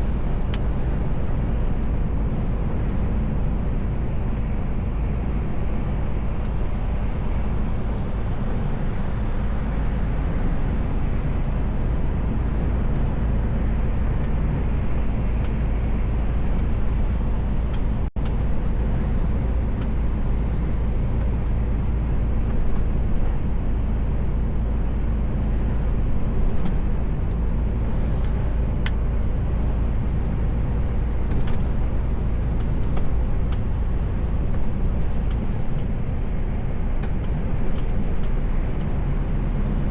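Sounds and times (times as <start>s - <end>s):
road noise: 0.0s - 39.9s
truck engine rumble: 0.0s - 39.9s.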